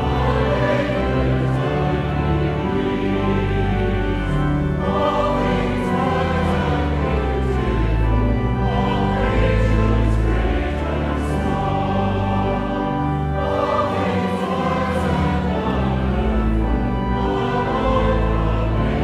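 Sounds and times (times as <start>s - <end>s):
choir singing a slow hymn: 0.0s - 19.0s
instrumental accompaniment: 0.0s - 19.0s.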